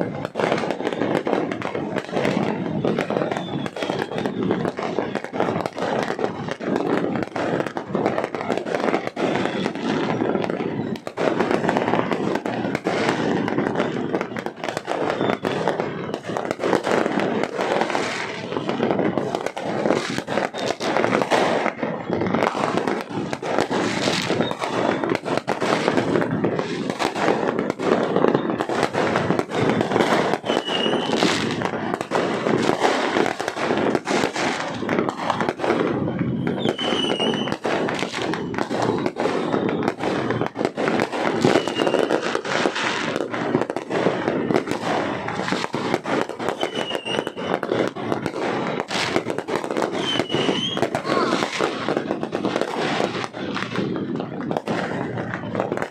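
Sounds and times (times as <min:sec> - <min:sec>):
firework whistles: 0:00.0 - 0:55.9
fireworks bangs and crackles: 0:00.0 - 0:55.9.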